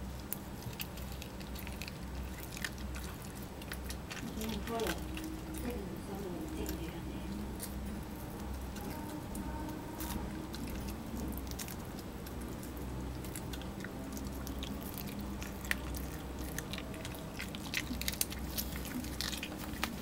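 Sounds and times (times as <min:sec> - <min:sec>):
dog chewing raw fish: 0:00.0 - 0:20.0
faint low hum: 0:00.0 - 0:20.0.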